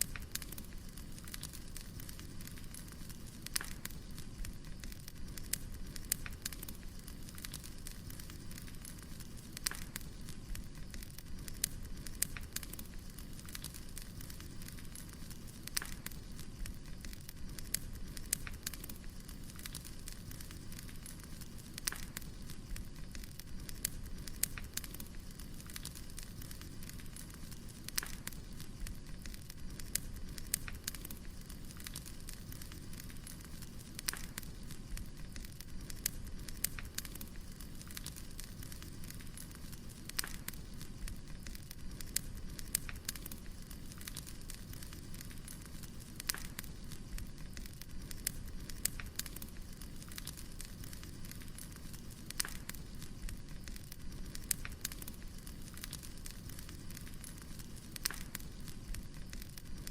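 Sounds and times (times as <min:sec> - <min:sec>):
firewood crackling and popping: 0:00.0 - 0:59.9
low rumble of flames: 0:00.0 - 0:59.9.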